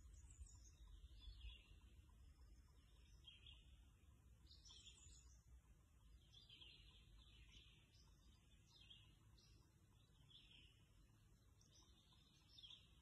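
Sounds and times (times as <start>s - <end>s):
faint birdsong: 0.0s - 13.0s
low steady rumble: 0.0s - 13.0s.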